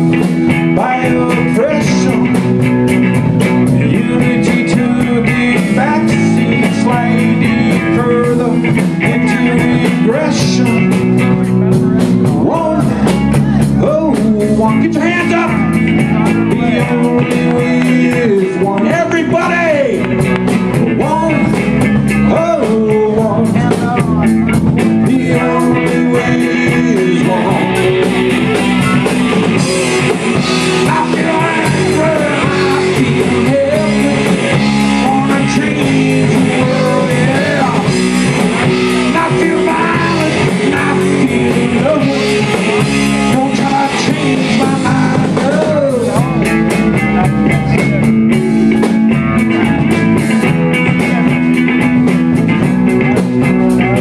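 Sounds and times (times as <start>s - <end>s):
drum kit beat: 0.0s - 54.0s
electric guitars: 0.0s - 54.0s
person singing: 0.0s - 54.0s.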